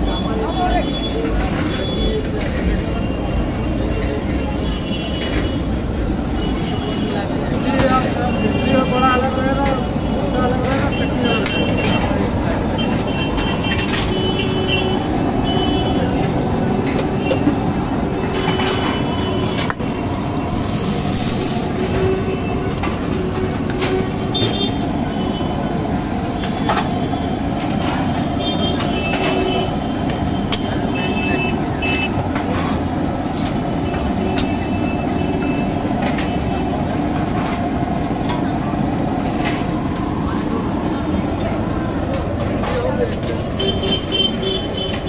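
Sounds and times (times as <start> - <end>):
busy street din: 0.0 - 45.0.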